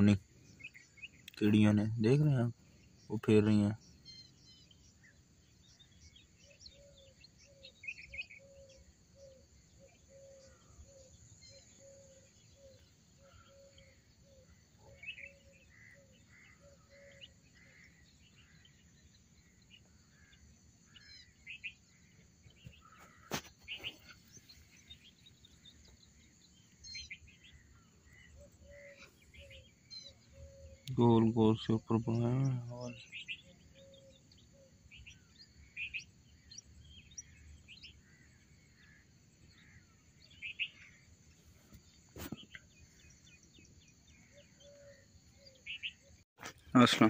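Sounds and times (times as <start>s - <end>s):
birds chirping: 0.0s - 47.0s
faint high insect drone: 0.0s - 47.0s.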